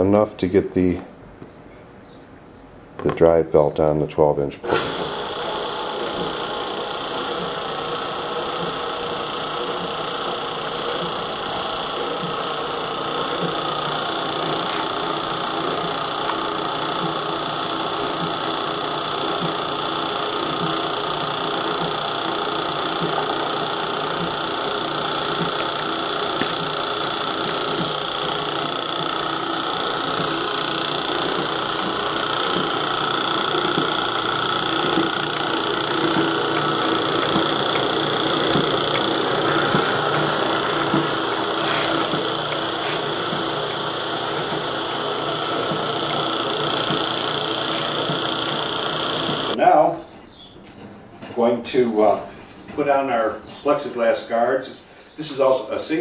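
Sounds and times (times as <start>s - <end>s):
meat grinder motor whining: 4.6s - 49.6s.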